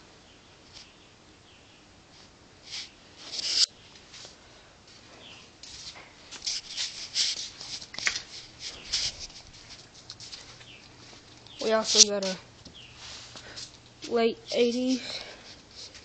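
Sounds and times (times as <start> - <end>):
scuffing and rustling: 2.1 - 16.0.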